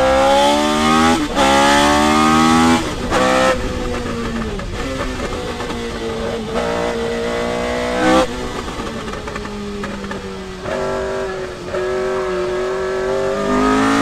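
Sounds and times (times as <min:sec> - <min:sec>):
gear change: 0:00.0 - 0:14.0
racing car engine revving: 0:00.0 - 0:14.0.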